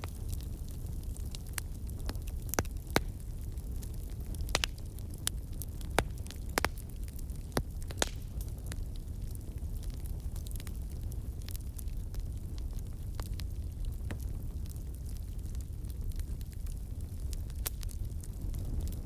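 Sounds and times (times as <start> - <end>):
campfire wood crackling and popping: 0.0 - 19.0
low rumble of flames: 0.0 - 19.0.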